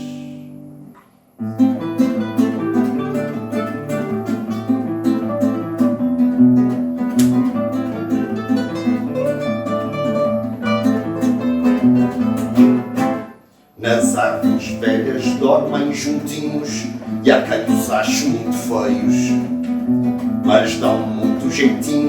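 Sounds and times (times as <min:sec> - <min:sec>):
strummed and plucked strings: 0:00.0 - 0:22.0.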